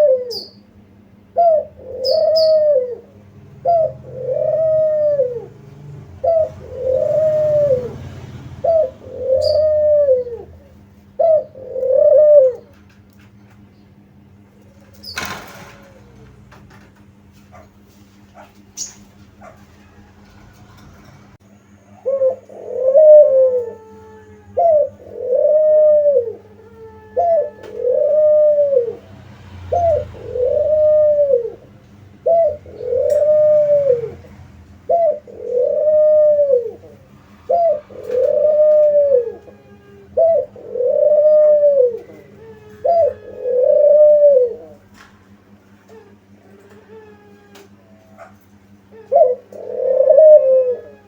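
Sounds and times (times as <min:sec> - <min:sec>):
dove cooing: 0:00.0 - 0:13.1, 0:14.0 - 0:51.0.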